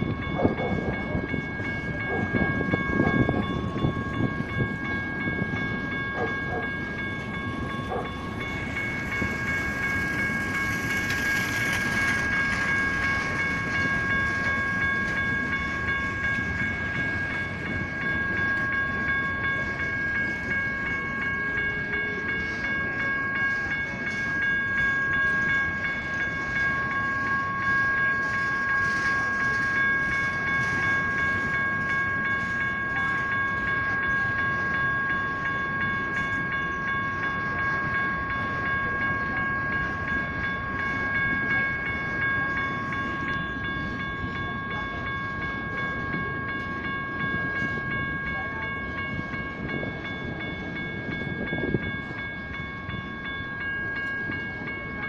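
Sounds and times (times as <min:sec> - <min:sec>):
electronic crossing bells ringing: 0:00.0 - 0:55.0.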